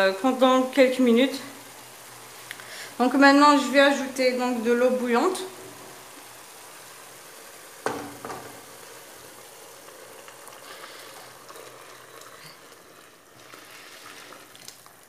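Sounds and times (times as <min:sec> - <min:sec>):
food sizzling in a pot: 0:00.0 - 0:15.0
water pouring: 0:00.0 - 0:15.0.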